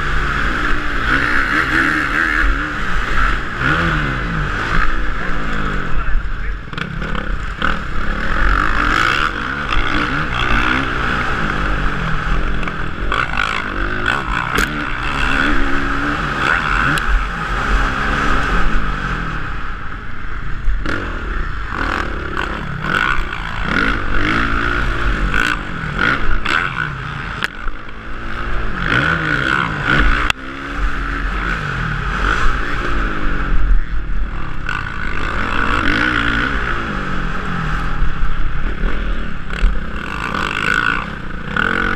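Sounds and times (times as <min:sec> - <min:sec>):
bike rattling: 0:00.0 - 0:41.9
motocross bike engine revving: 0:00.0 - 0:41.9.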